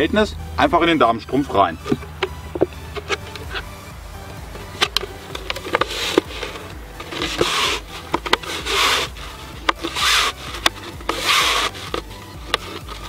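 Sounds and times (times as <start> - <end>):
stocking rubbing on plastic bottle: 1.8 - 3.8, 4.5 - 13.0.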